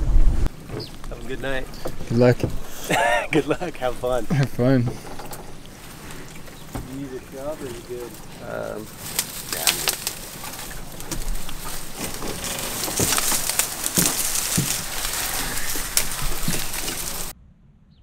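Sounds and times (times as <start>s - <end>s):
dry reeds rustling and crackling: 0.5s - 17.3s
stalks snapping: 0.5s - 17.3s.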